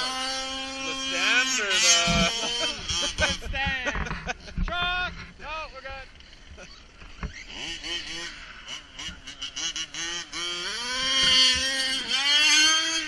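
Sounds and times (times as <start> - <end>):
radio-controlled truck motor revving: 0.0 - 4.3, 6.2 - 13.0.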